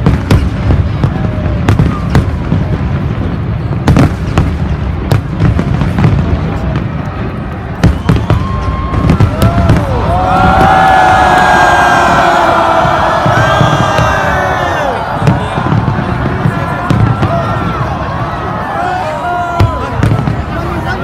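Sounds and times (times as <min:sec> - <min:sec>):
crowd shouting and cheering: 0:00.0 - 0:03.1, 0:05.5 - 0:21.0
distant explosions rumbling: 0:00.0 - 0:18.8, 0:19.5 - 0:21.0
fireworks sharp bangs: 0:00.0 - 0:21.0.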